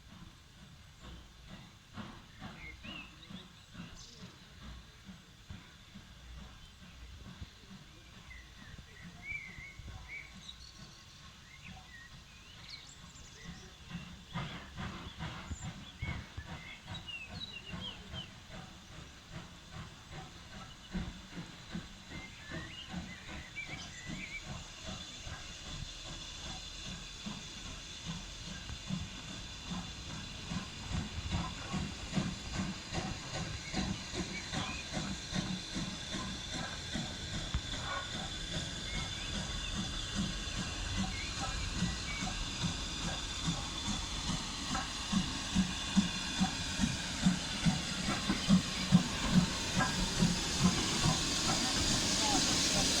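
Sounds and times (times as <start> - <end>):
rhythmic clanking of locomotive: 0.0 - 53.0
steam hissing: 0.0 - 53.0.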